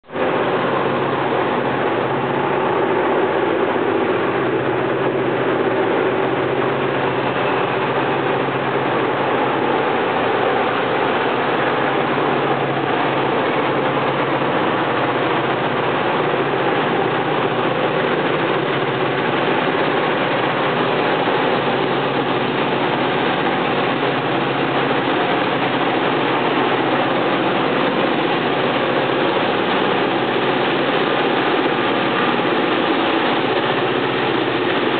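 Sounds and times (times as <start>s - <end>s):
locomotive engine drone: 0.0s - 34.9s.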